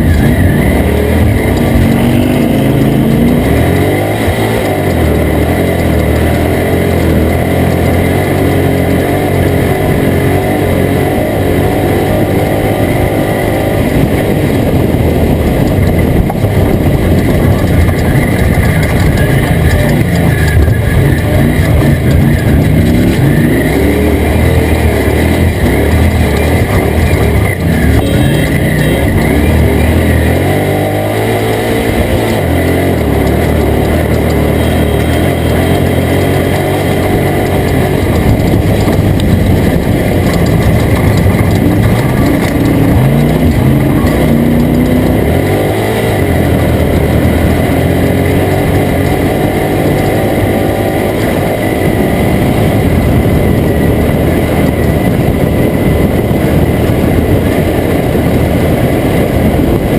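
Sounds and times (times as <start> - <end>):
steady rushing noise: 0.0 - 59.9
truck engine revving: 0.0 - 59.9.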